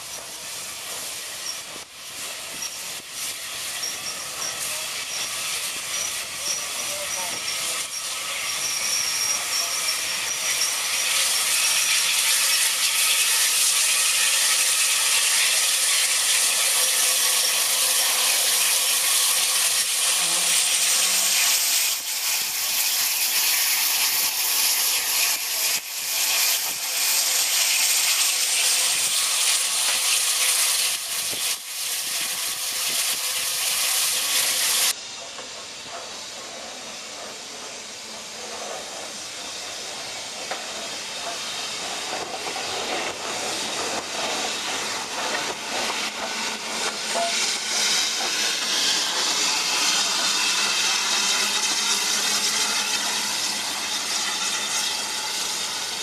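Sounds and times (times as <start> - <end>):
steam hissing loudly: 0.0 - 56.0
steam locomotive running slowly: 0.0 - 56.0.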